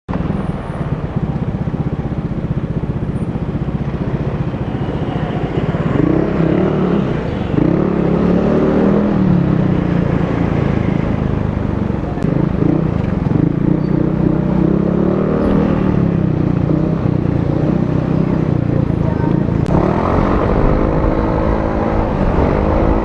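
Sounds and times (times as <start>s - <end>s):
scooter engine idling and revving: 0.1s - 23.0s.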